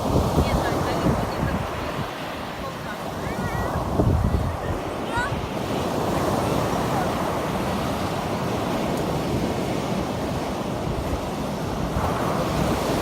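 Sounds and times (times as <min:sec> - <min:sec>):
breaking waves: 0:00.0 - 0:13.0
wind on microphone: 0:00.0 - 0:13.0.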